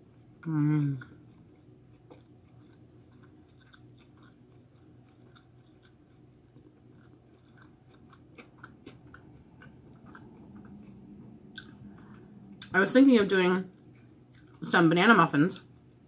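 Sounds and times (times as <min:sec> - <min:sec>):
low steady hum: 0:00.0 - 0:16.0
chewing crunchy food: 0:00.1 - 0:12.8, 0:13.7 - 0:14.8.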